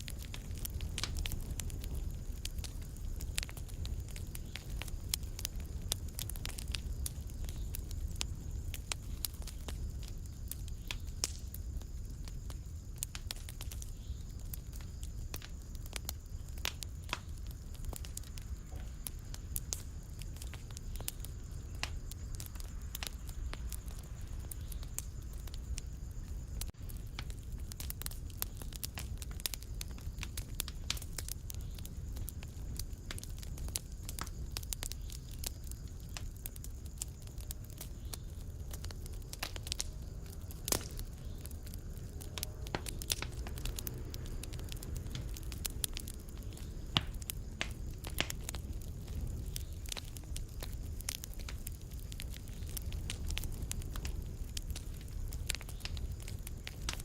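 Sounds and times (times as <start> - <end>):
low rumble of burning: 0.0 - 57.0
wood fire crackling and popping: 0.0 - 57.0.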